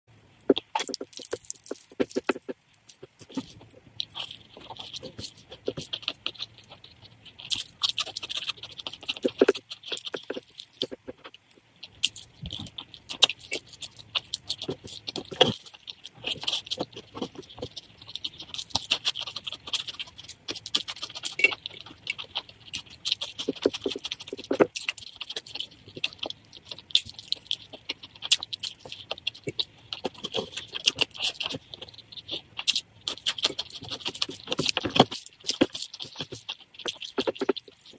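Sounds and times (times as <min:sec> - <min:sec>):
chewing with wet clicks: 0:00.1 - 0:37.9.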